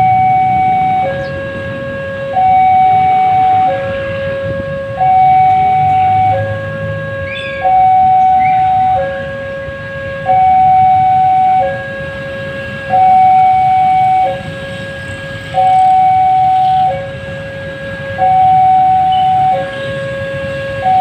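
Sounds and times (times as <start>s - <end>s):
two-tone crossing alarm: 0.0s - 21.0s.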